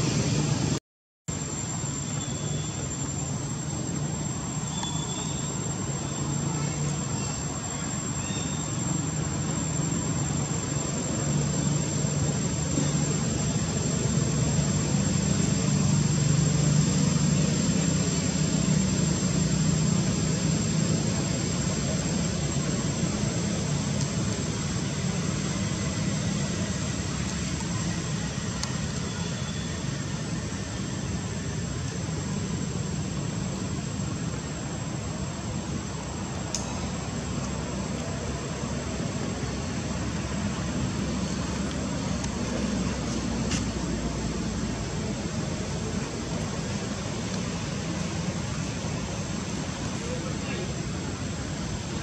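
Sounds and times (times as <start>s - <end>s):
low engine rumble: 0.0s - 52.0s.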